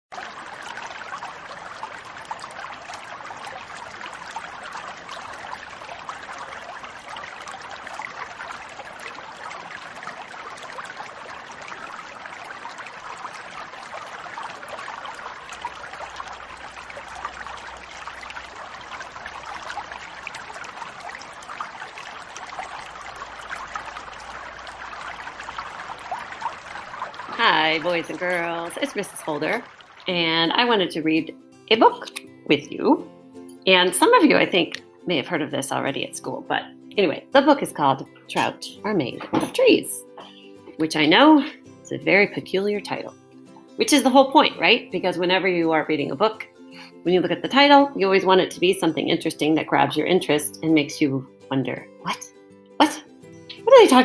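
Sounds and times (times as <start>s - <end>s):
stream babbling: 0.1s - 54.0s.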